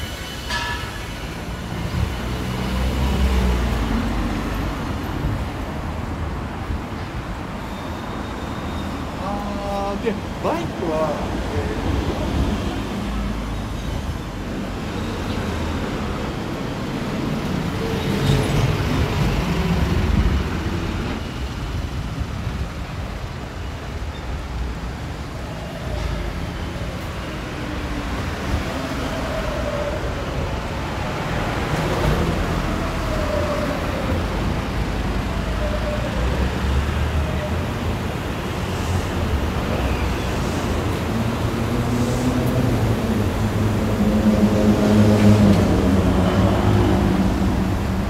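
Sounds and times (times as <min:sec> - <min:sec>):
passing engines: 0:00.0 - 0:48.0
road traffic rumble: 0:00.0 - 0:48.0.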